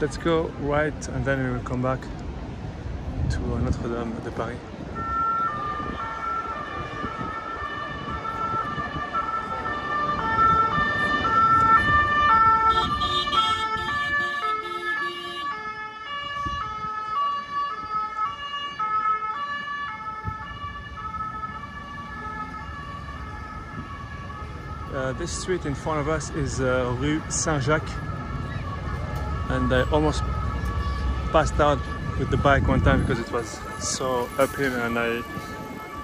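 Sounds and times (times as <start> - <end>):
street traffic: 0.0 - 36.0
two-tone emergency siren: 4.9 - 36.0.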